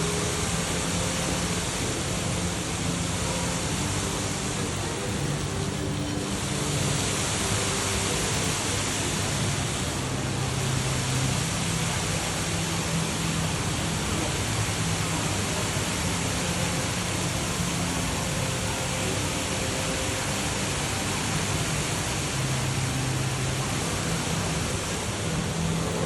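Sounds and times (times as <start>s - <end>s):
indoor waterfall splashing: 0.0s - 26.0s.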